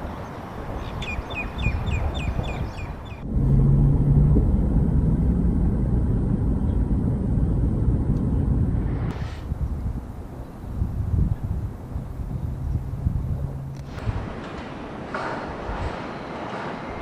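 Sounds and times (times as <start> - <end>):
road traffic: 0.0 - 17.0
wind: 0.0 - 17.0.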